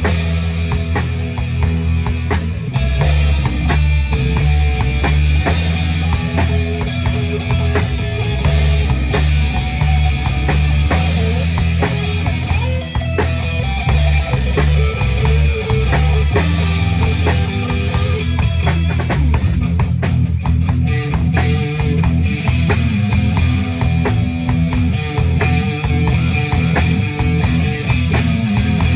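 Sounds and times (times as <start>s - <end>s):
bass guitar notes: 0.0s - 28.9s
drum kit hits: 0.0s - 28.9s
electric guitar: 0.0s - 28.9s.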